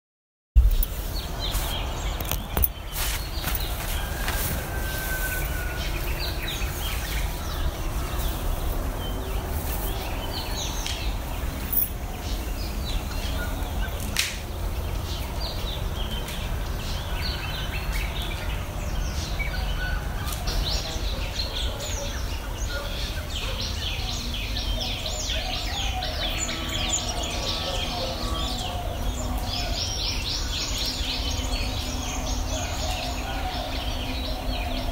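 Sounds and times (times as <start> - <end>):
birds chirping and twittering: 0.6 - 34.9.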